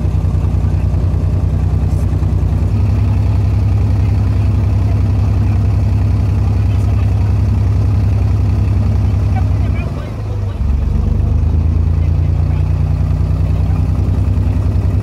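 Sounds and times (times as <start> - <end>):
boat diesel engine drone: 0.0 - 15.0.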